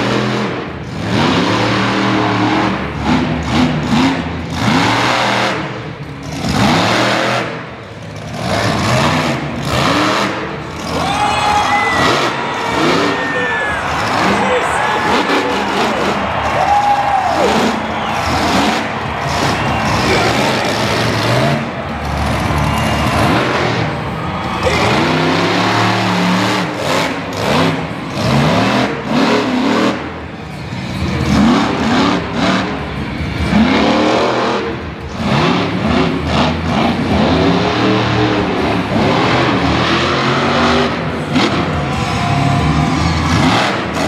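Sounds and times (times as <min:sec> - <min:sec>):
monster truck engine revving: 0:00.0 - 0:44.0.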